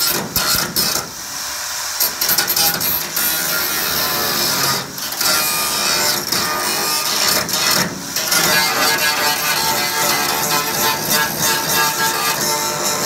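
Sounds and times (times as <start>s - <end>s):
gas welding torch hissing: 0.0s - 13.0s.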